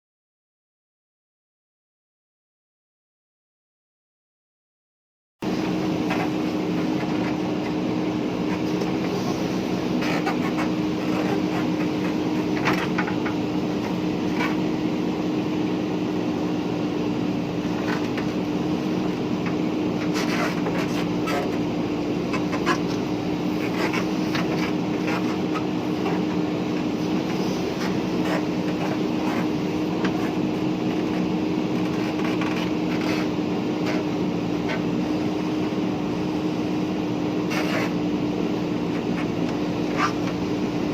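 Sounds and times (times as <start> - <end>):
diesel engine running: 5.4 - 40.9.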